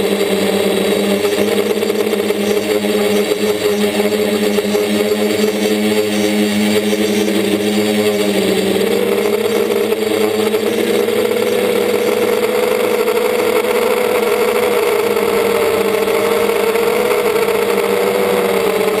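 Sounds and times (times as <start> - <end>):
drone motors and propellers: 0.0 - 19.0.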